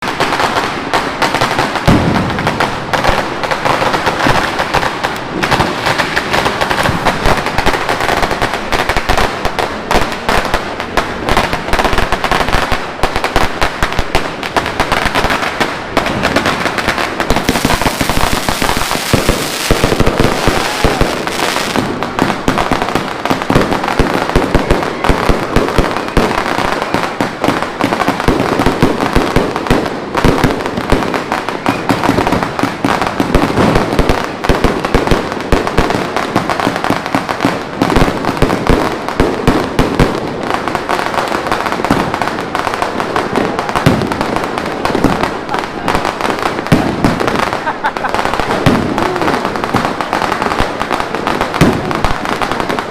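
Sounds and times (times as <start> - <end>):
fireworks cake firing shots: 0.0 - 52.9.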